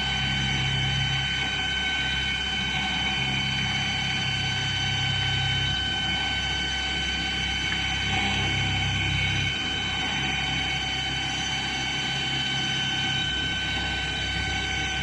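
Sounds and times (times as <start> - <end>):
high-pitched machine whine: 0.0 - 15.0
lower machine hum: 0.0 - 15.0.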